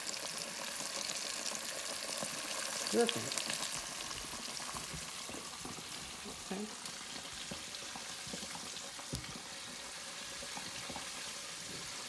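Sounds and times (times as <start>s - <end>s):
chicken frying in grease: 0.0s - 12.0s.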